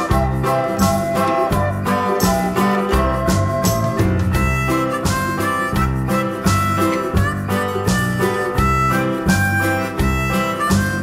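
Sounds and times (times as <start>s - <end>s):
upbeat music with beat and bass: 0.0s - 11.0s.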